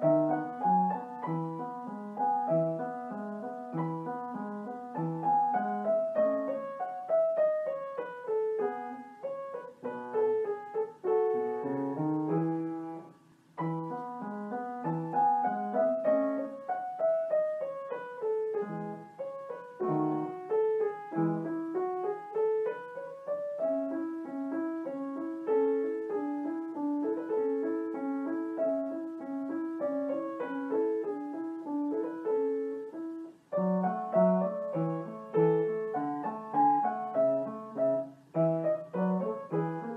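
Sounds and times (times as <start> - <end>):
solo piano music: 0.0 - 39.9.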